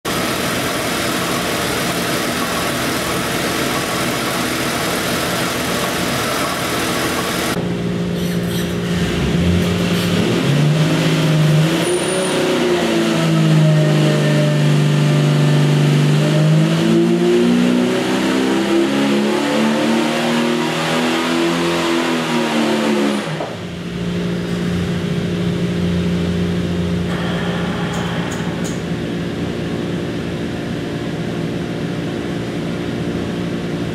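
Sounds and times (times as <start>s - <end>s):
engine running on a dyno: 0.0s - 33.9s.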